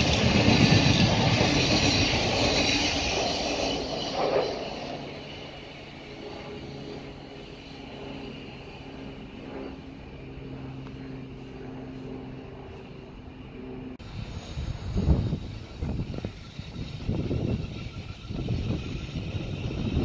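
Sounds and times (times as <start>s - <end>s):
electric train motors humming: 0.0s - 20.0s.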